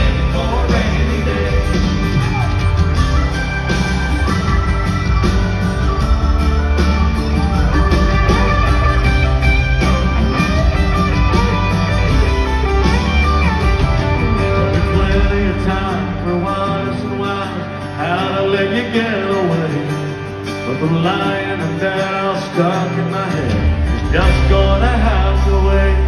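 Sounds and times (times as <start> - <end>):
country-rock band playing: 0.0 - 26.0
lead guitar: 0.0 - 26.0.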